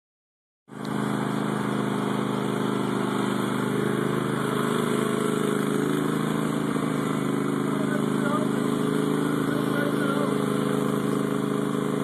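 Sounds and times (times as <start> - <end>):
lawn tractor engine running: 0.7 - 12.0.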